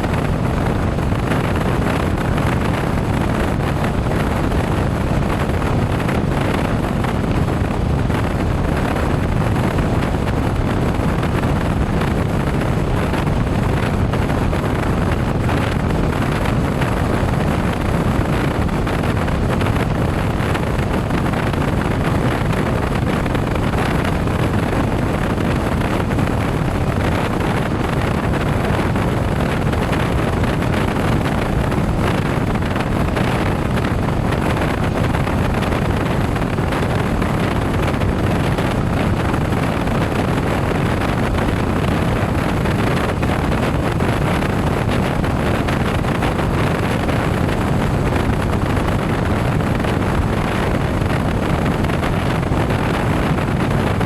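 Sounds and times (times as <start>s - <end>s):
motorcycle and road noise: 0.0s - 54.0s
wind rushing on microphone: 0.0s - 54.0s.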